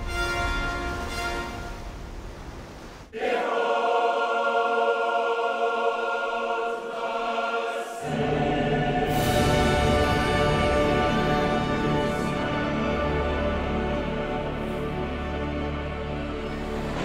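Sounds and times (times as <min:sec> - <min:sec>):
choir-like voices holding chords: 0:03.1 - 0:17.0.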